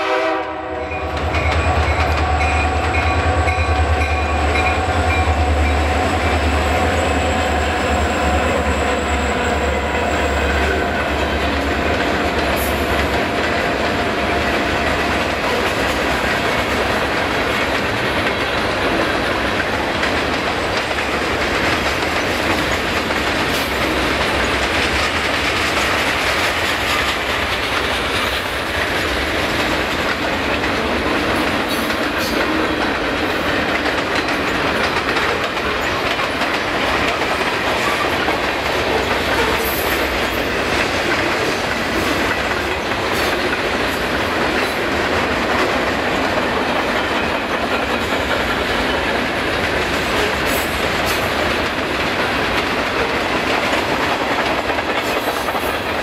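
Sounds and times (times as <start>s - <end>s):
freight train cars rolling past: 0.0s - 56.0s
steel wheels clattering on rails: 0.4s - 56.0s.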